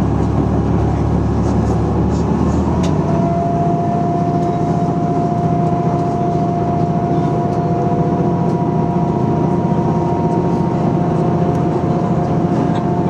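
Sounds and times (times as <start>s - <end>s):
railcar engine and wheel rumble: 0.0s - 13.0s.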